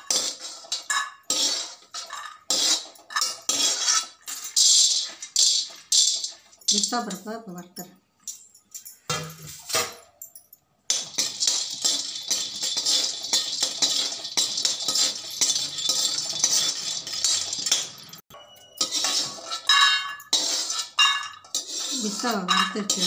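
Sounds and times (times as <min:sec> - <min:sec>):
metal clatter: 0:00.0 - 0:07.3, 0:08.3 - 0:23.0
nuts rattling in metal pan: 0:00.0 - 0:07.3, 0:10.9 - 0:18.2, 0:18.8 - 0:23.0.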